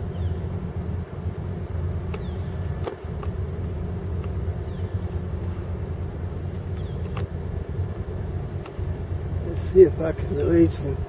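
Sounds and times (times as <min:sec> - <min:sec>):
boat motor rumbling: 0:00.0 - 0:11.0.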